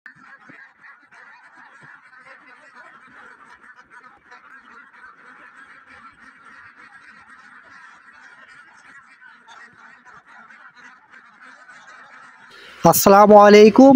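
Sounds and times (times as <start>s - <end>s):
ducks quacking: 0.1s - 13.9s.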